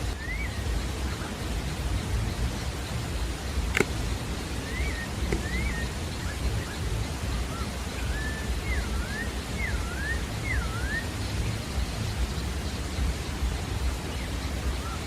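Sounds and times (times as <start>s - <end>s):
steady hiss and low rumble: 0.0s - 15.0s
thrush singing whistled notes: 0.0s - 15.0s.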